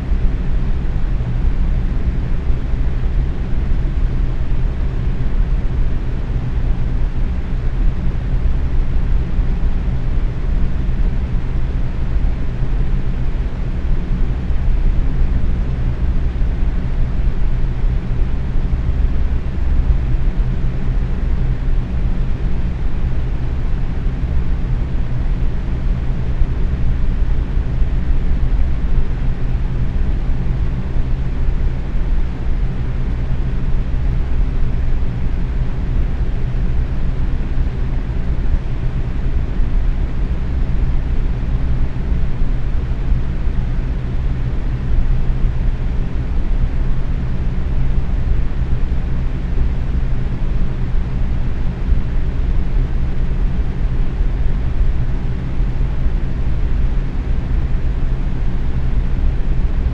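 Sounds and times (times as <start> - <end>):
box fan running: 0.0 - 59.9.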